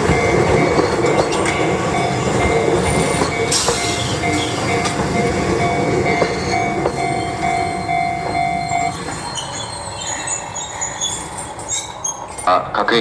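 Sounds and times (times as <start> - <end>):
electric train rumbling: 0.0 - 13.0
high-pitched wheel squeal: 0.6 - 12.5.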